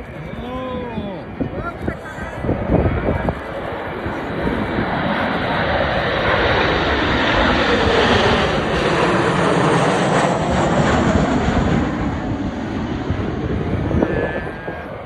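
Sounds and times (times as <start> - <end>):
high jet whine: 0.0 - 15.0
jet aircraft passing overhead: 0.0 - 15.0.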